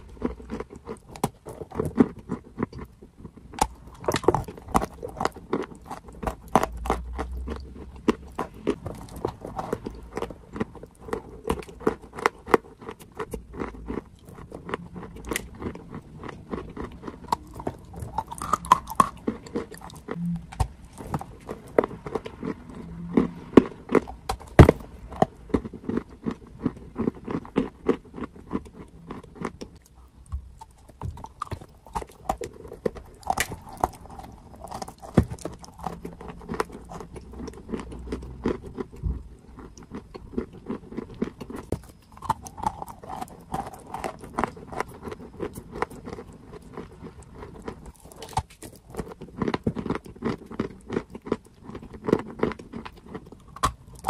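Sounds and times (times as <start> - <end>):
chewing and crunching dried clay: 0.0 - 54.0.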